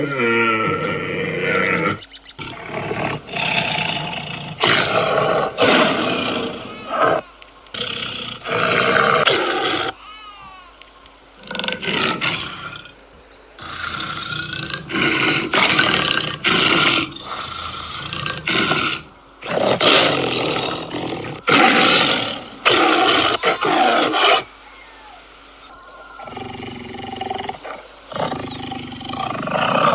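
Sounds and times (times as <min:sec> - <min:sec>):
tiger roaring: 0:00.0 - 0:10.0, 0:11.4 - 0:12.9, 0:13.6 - 0:24.4, 0:26.2 - 0:29.9.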